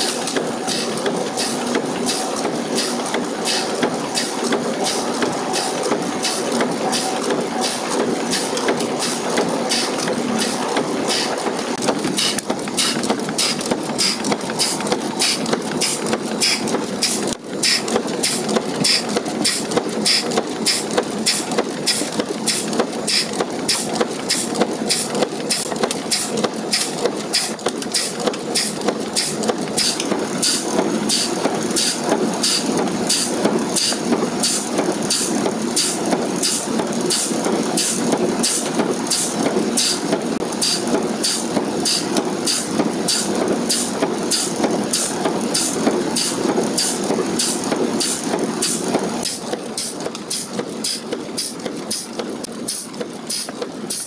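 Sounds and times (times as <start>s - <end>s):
power press stroke clacking: 0.0s - 52.1s.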